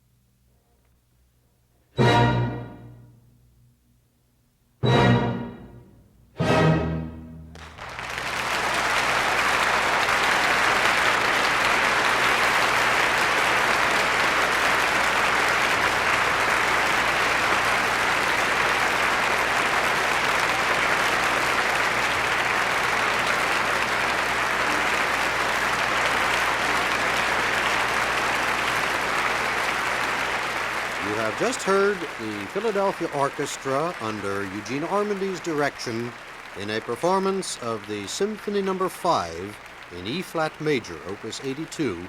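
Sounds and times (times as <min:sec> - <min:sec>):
audience applauding: 0:06.8 - 0:42.0.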